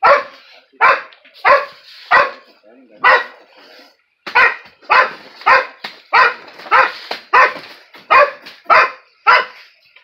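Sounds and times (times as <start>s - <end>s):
dog barking: 0.0s - 3.4s, 4.3s - 9.7s.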